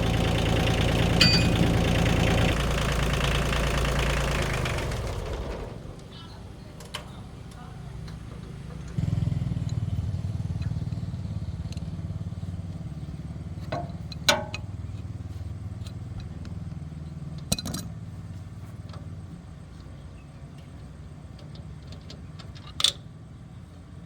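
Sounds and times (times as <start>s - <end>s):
car engine running: 0.0s - 21.7s.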